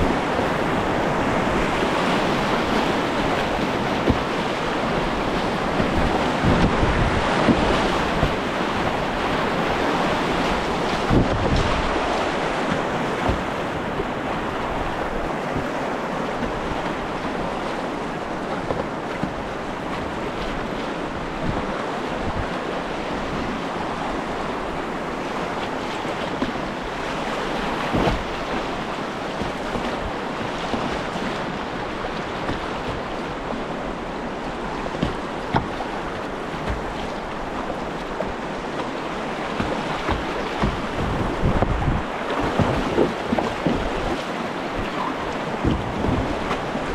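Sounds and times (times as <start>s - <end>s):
river whitewater rushing: 0.0s - 46.9s
sharp knocks or splashes: 2.2s - 17.6s, 18.5s - 20.7s, 25.6s - 33.5s, 34.7s - 46.9s.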